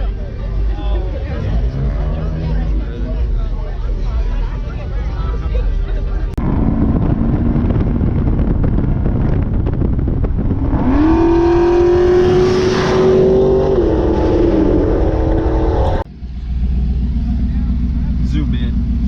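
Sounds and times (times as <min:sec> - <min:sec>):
vehicle engine revving: 0:00.0 - 0:04.4, 0:06.3 - 0:19.0.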